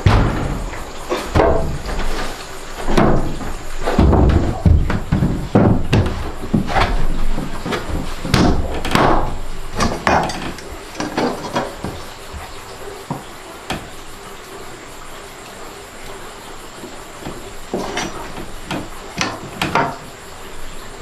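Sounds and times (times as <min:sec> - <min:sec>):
wooden boards knocking and scraping: 0:00.0 - 0:14.1, 0:16.8 - 0:21.0.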